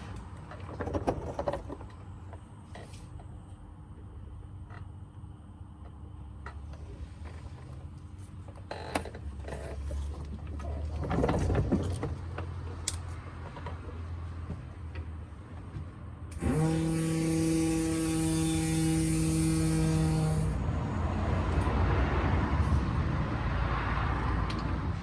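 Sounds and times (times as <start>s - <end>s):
low workshop rumble: 0.0s - 25.0s.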